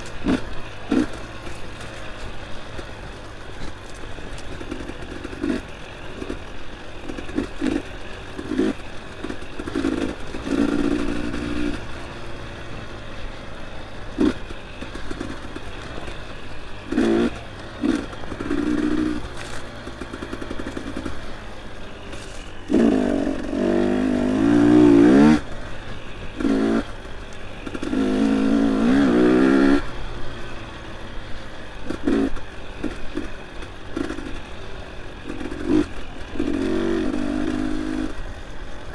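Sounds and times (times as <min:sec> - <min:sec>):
dirt bike engine revving: 0:00.0 - 0:38.8.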